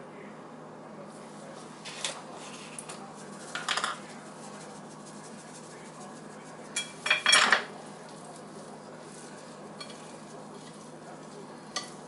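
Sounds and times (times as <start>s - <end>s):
seasoning shaker clattering: 1.9s - 12.0s.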